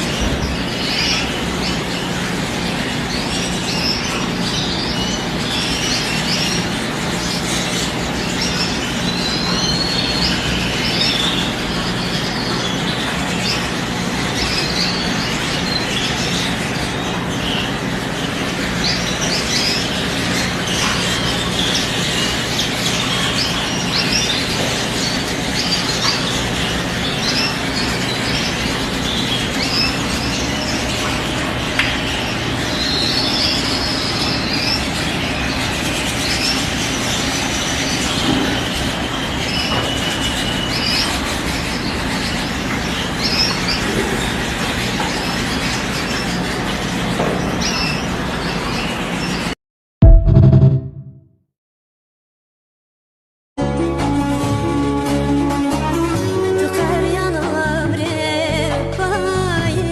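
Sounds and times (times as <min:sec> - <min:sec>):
small birds chirping: 0:00.0 - 0:49.6.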